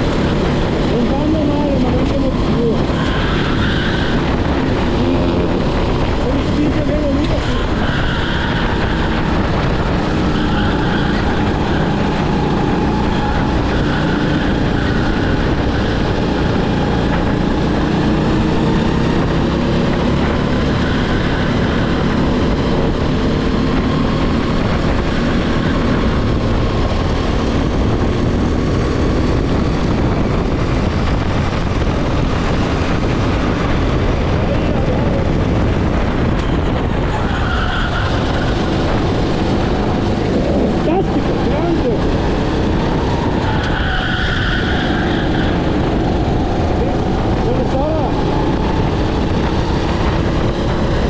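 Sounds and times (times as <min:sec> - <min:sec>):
kart engine at speed: 0:00.0 - 0:51.0
wind and track noise: 0:00.0 - 0:51.0.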